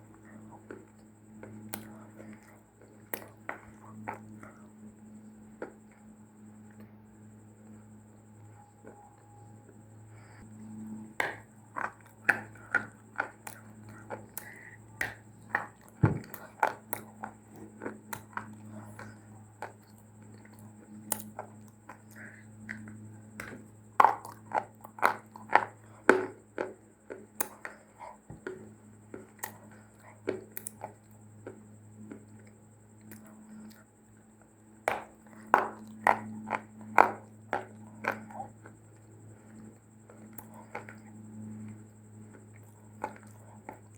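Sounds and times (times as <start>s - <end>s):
person chewing dry clay crunches: 0.0s - 43.9s
steady low hum: 0.0s - 43.9s.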